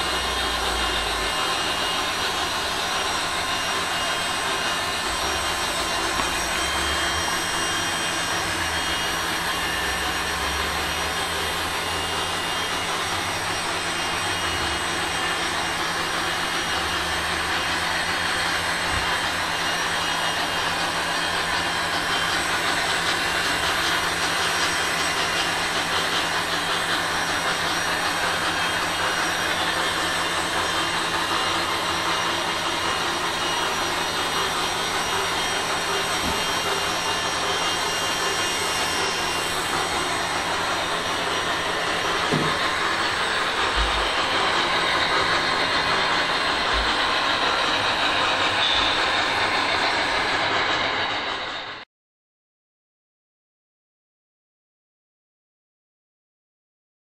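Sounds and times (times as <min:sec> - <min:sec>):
toy helicopter rotor whine: 0:00.0 - 0:51.8.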